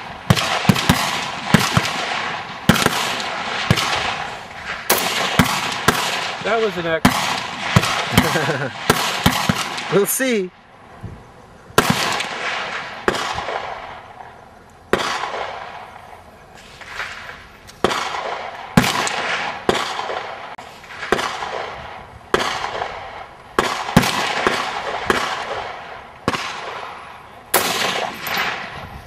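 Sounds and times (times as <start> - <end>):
rifle shots with echo: 0.0 - 10.6, 11.8 - 28.9.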